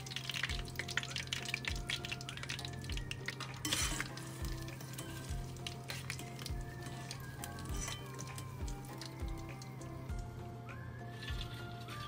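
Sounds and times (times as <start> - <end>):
skimmer stirring through oil: 0.0 - 10.4
hot oil crackling and sizzling: 0.0 - 12.0.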